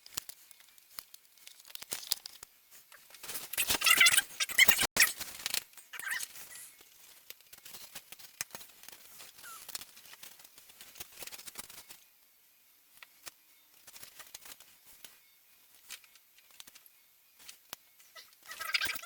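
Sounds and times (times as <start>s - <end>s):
small parts clicking and tapping: 0.0s - 12.0s, 12.9s - 19.0s.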